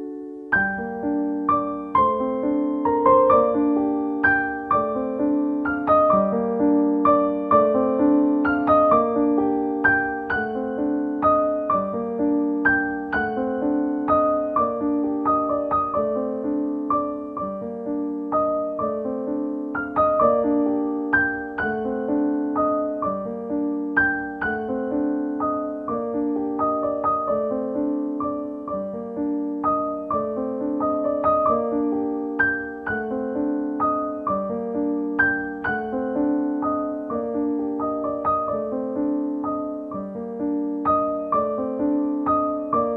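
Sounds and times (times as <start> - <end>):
background piano music: 0.0 - 42.9.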